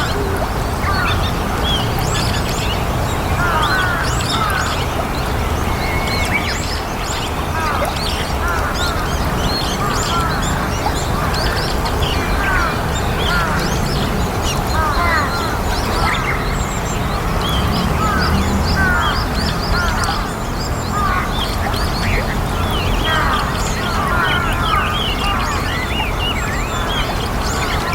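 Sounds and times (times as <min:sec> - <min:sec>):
starlings chirping: 0:00.0 - 0:27.9.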